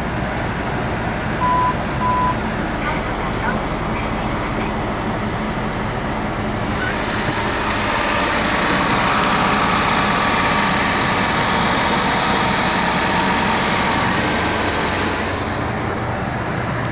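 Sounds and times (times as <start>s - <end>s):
truck engine running: 0.0s - 16.9s.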